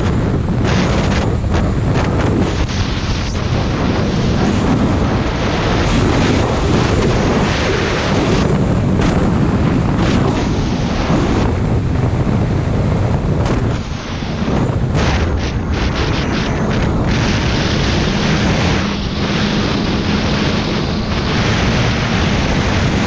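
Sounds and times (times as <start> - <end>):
snowmobile engine running: 0.0 - 23.0
wind buffeting microphone: 0.0 - 23.0.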